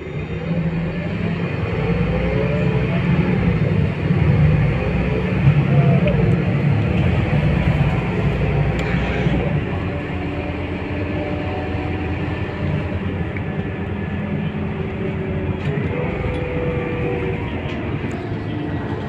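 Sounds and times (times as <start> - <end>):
bus diesel engine rumble: 0.0 - 19.0
drivetrain whine: 0.0 - 19.0.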